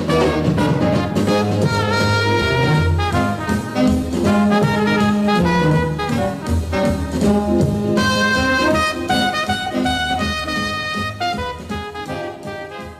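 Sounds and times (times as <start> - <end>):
swing tune with brass: 0.0 - 12.9.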